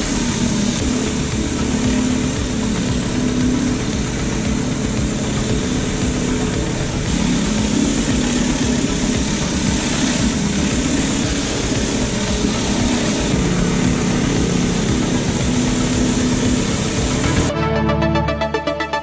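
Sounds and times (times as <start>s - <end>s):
high-pressure water spray hissing: 0.0s - 17.5s
pressure washer engine running: 0.0s - 17.5s.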